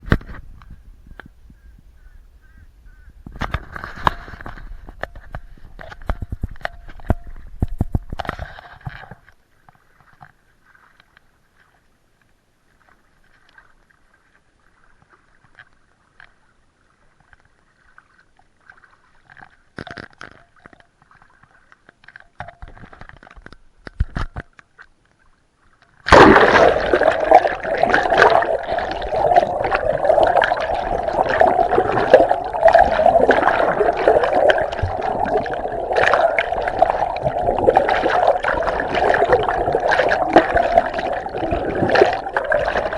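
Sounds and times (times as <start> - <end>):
sea water sloshing and gurgling: 3.3 - 42.9.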